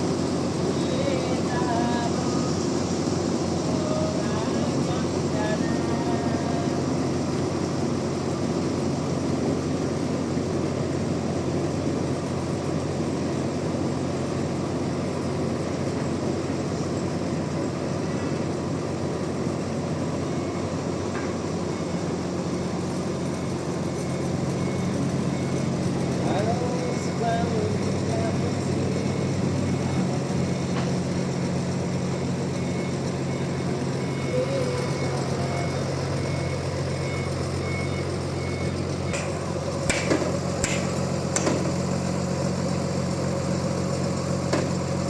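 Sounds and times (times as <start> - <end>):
sawmill machinery humming: 0.0 - 45.0.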